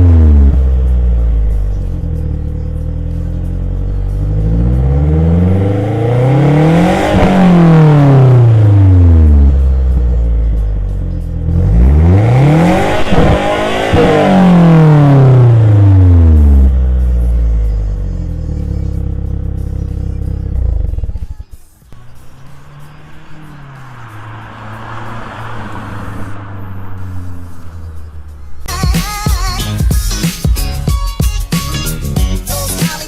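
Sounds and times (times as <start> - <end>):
car engine revving: 0.0 - 28.7.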